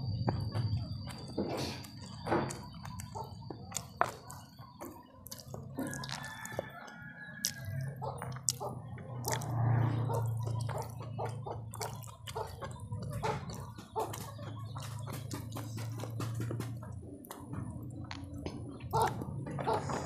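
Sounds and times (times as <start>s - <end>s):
wet chewing and lip-smacking: 0.2s - 19.6s.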